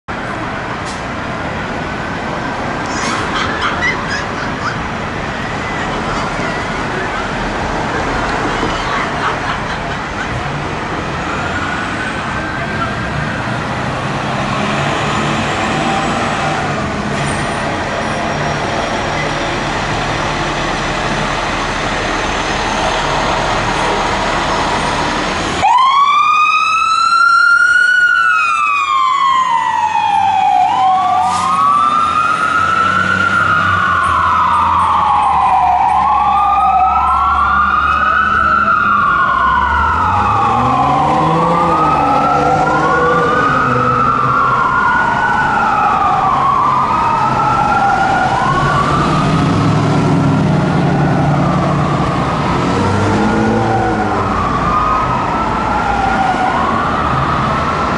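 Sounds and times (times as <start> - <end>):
street traffic engine rumble: 0.1 - 57.9
fire engine siren wailing: 0.4 - 57.9.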